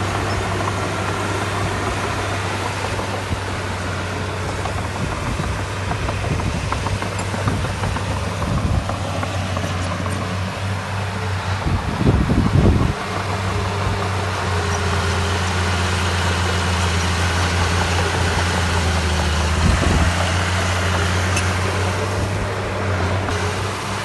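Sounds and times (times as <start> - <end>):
heavy diesel engine running: 0.0 - 24.0
low engine rumbles: 0.0 - 24.0.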